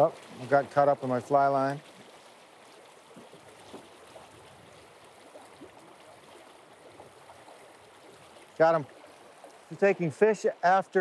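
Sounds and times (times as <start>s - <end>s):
stream flowing over stones: 0.0s - 11.0s.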